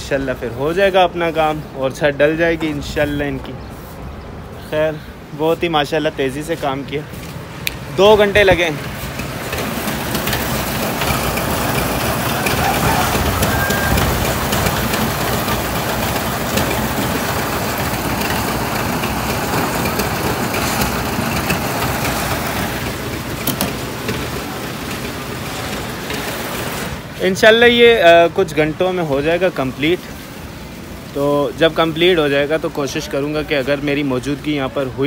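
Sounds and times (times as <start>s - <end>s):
construction machinery engine running: 0.0s - 35.0s.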